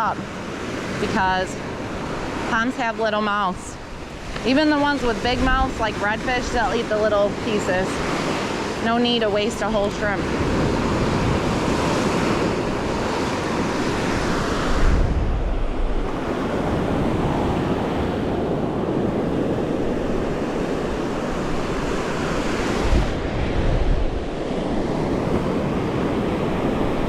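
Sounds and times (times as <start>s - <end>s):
surf washing onto beach: 0.0s - 27.0s
wind rumbling on microphone: 0.0s - 27.0s.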